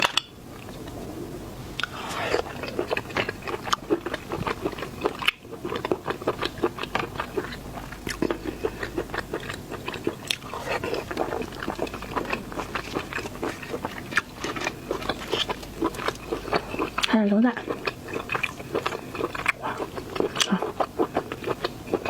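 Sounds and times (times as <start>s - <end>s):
crunching and chewing seafood: 1.8s - 22.0s.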